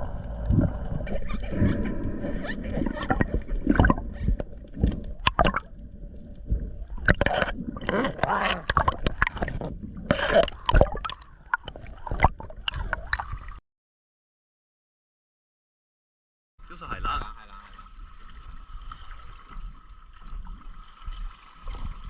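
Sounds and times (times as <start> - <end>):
water gurgling and splashing: 0.0 - 13.6, 17.3 - 22.0.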